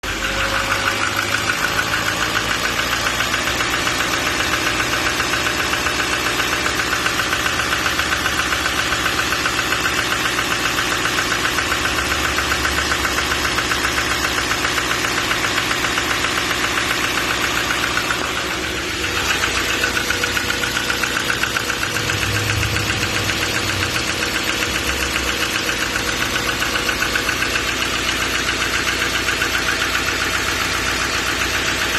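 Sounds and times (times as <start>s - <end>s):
diesel engine running with knock: 0.0s - 31.9s.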